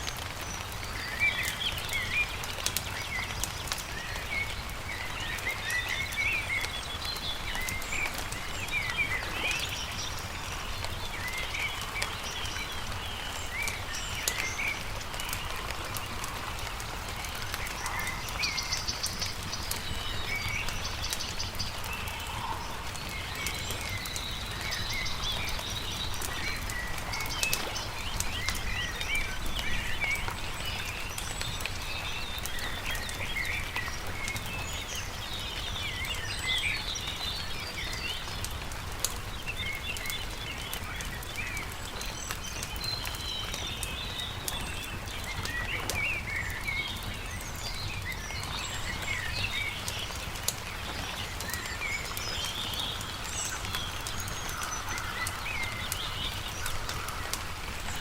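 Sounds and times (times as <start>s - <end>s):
campfire pops and crackles: 0.0s - 58.0s
small birds chirping: 0.0s - 58.0s.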